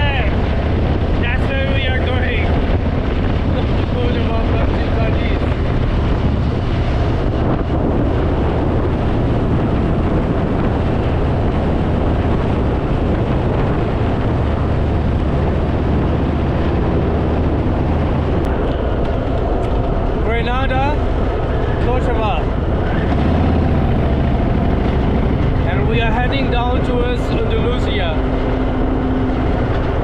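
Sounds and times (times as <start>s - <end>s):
motorcycle engine running: 0.0s - 30.0s
wind noise on microphone: 0.0s - 30.0s.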